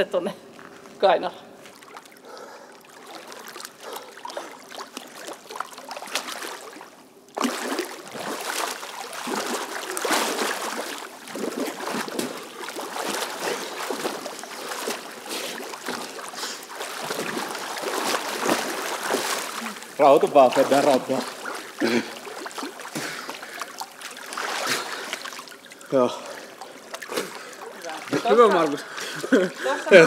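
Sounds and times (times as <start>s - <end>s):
water splashing in a pool: 1.6s - 30.0s.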